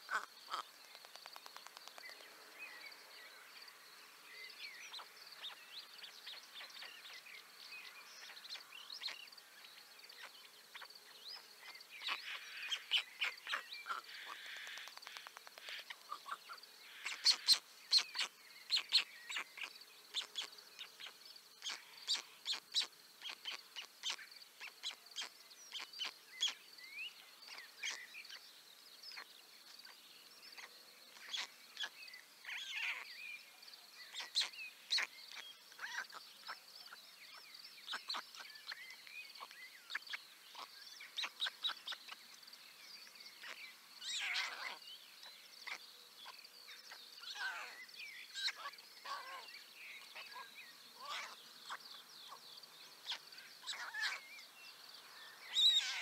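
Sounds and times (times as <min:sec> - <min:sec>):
birds chirping and calling: 0:00.0 - 0:03.7, 0:04.5 - 0:56.0.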